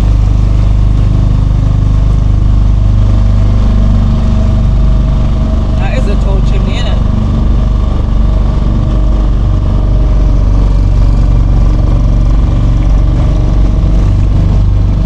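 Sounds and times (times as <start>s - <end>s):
motorboat engine running: 0.0s - 15.0s.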